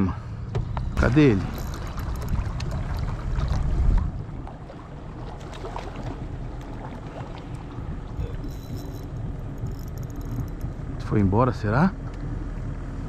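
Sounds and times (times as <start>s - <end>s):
outboard motor running: 0.5s - 13.0s.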